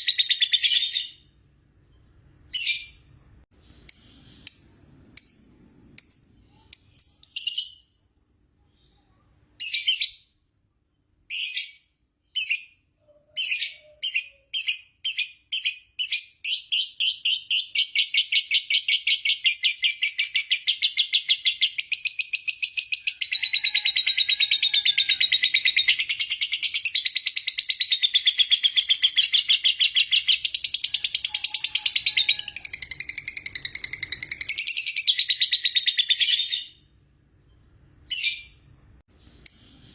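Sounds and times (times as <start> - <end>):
lovebird calling and trilling: 0.0 - 1.3, 2.4 - 8.0, 11.3 - 36.9, 38.0 - 39.9.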